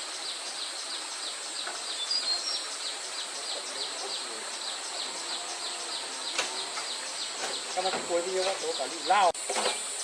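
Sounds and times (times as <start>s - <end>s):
insects droning and chirping: 0.0s - 10.0s.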